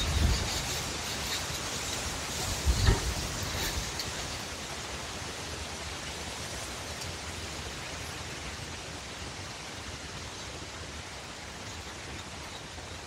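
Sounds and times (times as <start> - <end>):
wind rushing through trees: 0.0 - 13.0.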